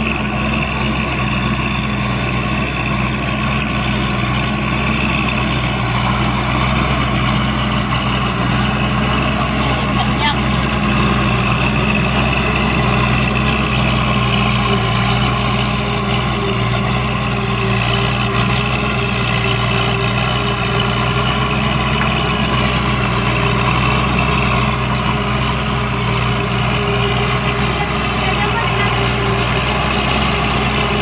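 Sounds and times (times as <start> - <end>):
tractor engine droning: 0.0 - 31.0.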